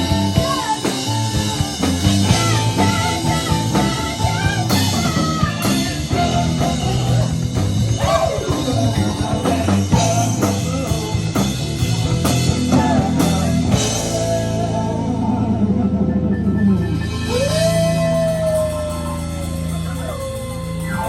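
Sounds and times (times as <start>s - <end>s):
drum kit: 0.0s - 15.7s, 16.7s - 21.0s
electric guitar bending notes: 0.0s - 21.0s.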